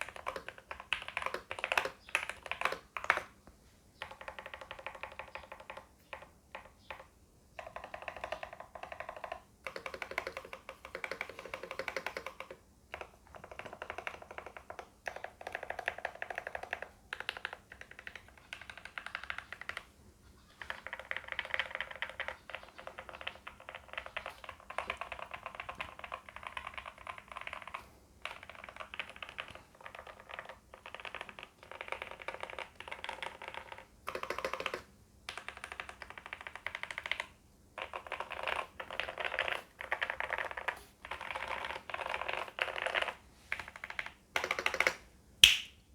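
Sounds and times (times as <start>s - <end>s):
fast typing on mechanical keyboard: 0.0s - 3.3s, 4.0s - 19.9s, 20.5s - 45.0s.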